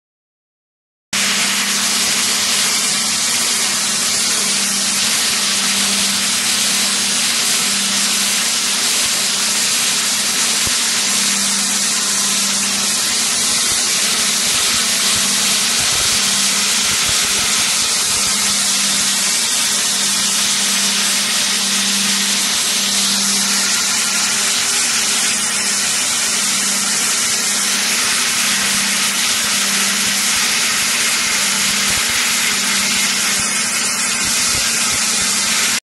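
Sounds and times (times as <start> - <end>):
high-pressure water jet hissing: 1.2 - 35.8.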